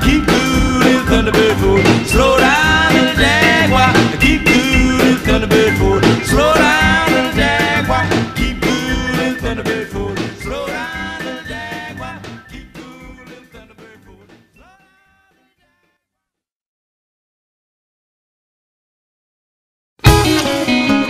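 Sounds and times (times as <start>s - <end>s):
rock and roll song: 0.0s - 15.9s, 20.0s - 21.0s.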